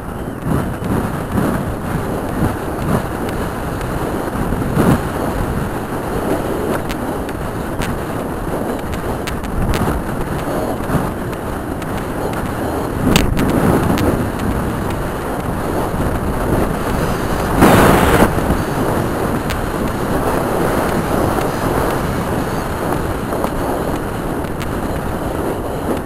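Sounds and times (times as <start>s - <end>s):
wind buffeting microphone: 0.0s - 26.0s
horse hoofbeats galloping: 0.2s - 26.0s.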